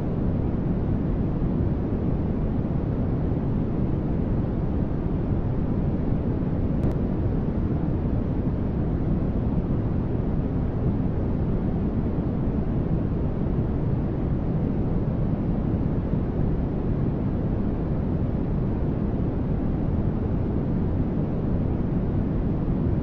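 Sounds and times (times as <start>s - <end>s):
low white noise rush: 0.0s - 23.0s.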